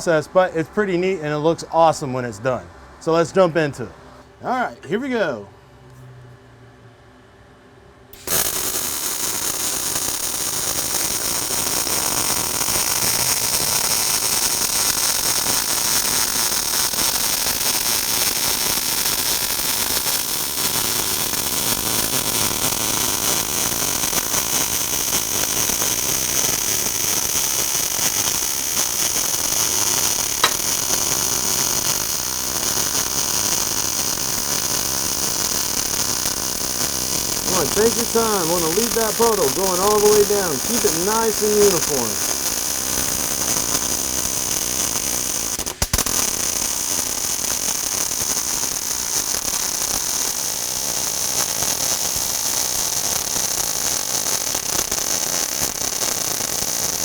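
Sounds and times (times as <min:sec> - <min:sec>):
welding arc crackling hiss: 0:08.2 - 0:57.0.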